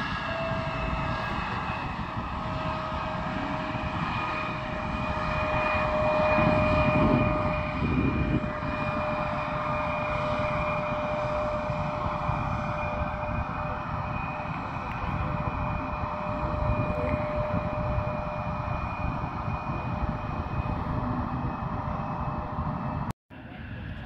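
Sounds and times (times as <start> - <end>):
jet engines whining: 0.0 - 24.0.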